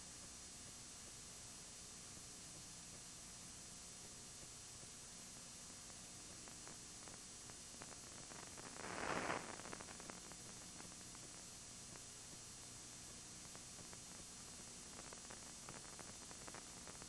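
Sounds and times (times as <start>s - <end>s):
faint hiss and hum: 0.0s - 17.0s.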